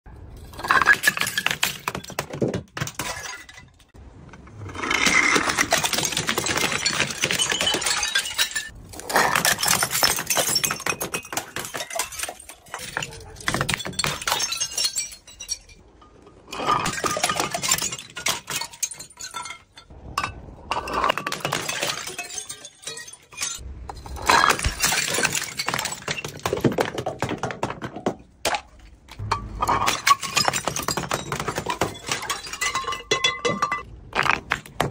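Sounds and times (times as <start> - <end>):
glass bottles clattering and smashing: 0.4 - 4.0, 4.6 - 34.9.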